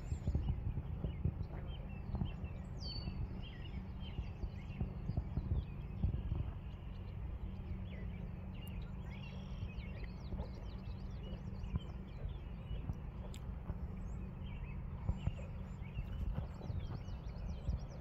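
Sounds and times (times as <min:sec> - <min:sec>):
birds chirping and singing: 0:00.0 - 0:18.0
steady low rumble: 0:00.0 - 0:18.0.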